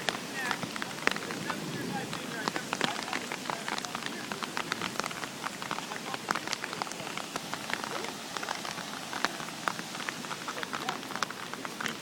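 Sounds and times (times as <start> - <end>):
heavy rain hiss: 0.0 - 12.0
raindrops pattering on umbrella: 0.0 - 12.0.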